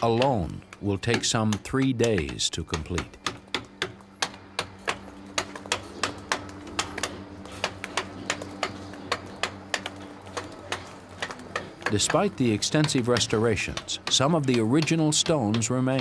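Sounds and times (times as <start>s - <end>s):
mallet tapping chisel on stone: 0.0s - 16.0s.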